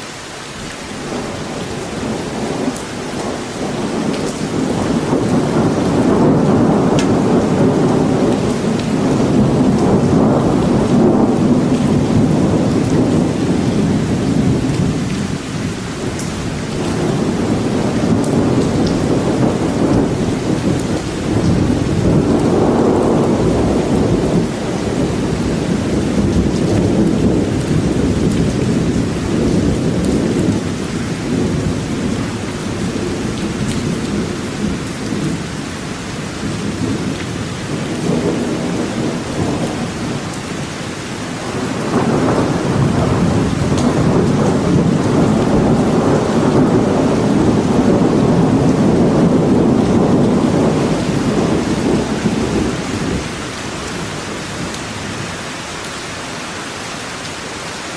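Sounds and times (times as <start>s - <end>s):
rain falling in forest: 0.0s - 57.9s.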